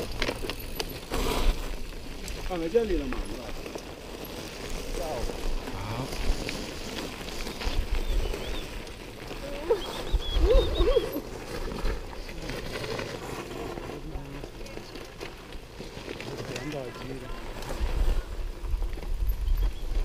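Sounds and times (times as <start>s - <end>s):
bike bumping on trail: 0.0s - 20.0s
rumbling wind: 0.0s - 20.0s.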